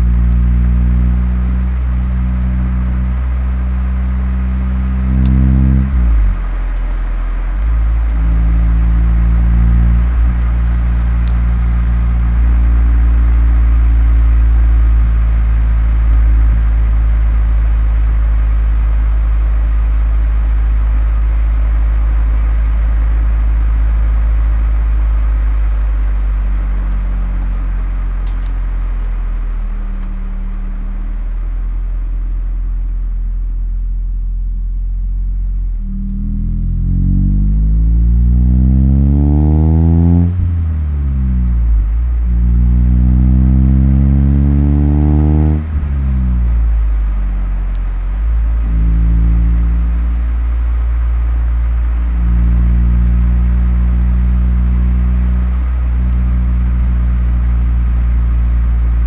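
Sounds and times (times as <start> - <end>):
car engine droning: 0.0 - 59.0.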